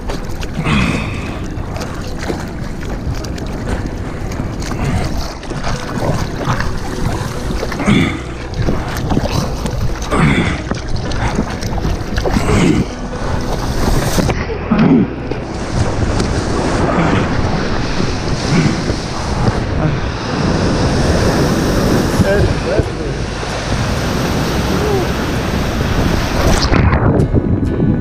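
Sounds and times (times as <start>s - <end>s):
water sloshing and splashing: 0.0s - 27.8s
wind on microphone: 0.0s - 28.0s.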